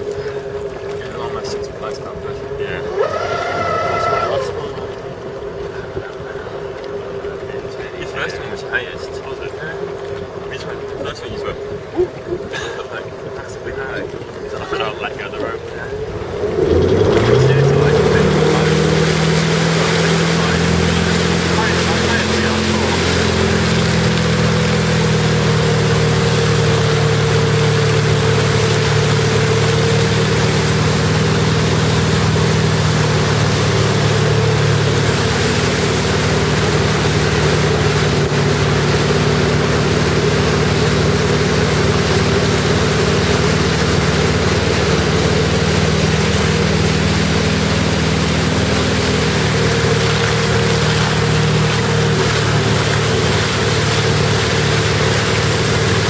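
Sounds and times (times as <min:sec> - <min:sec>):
boat engine running: 0:00.0 - 0:56.0
water rushing from wake: 0:00.0 - 0:56.0.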